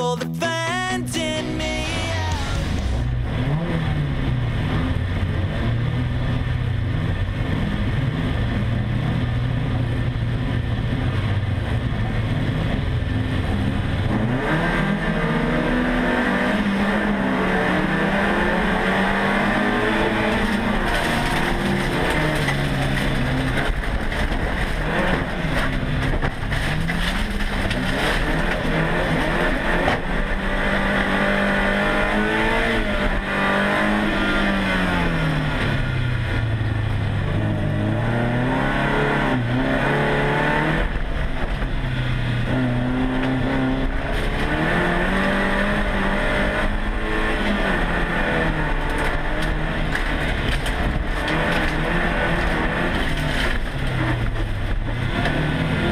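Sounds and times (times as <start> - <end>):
race car engine revving: 1.1 - 55.9.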